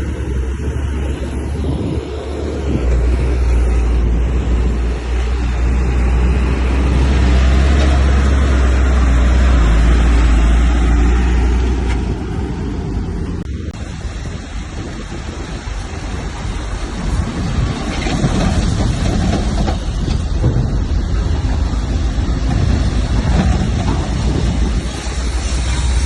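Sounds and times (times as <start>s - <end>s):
heavy diesel engine under load: 0.0s - 26.0s.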